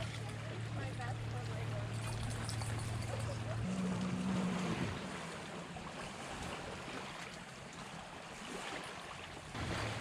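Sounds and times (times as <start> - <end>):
low motor hum: 0.0 - 8.4
small waves at shore: 0.0 - 10.0.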